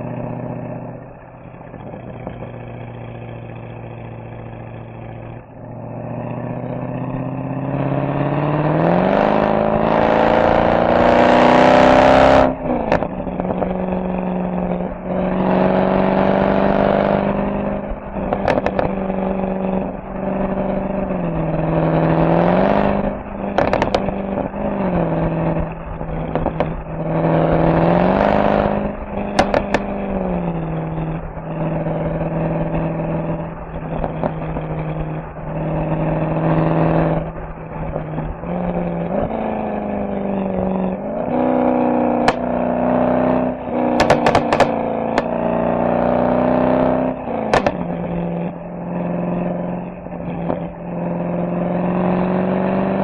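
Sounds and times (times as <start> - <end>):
car exhaust accelerating: 0.0 - 53.0
exhaust crackles: 0.0 - 53.0.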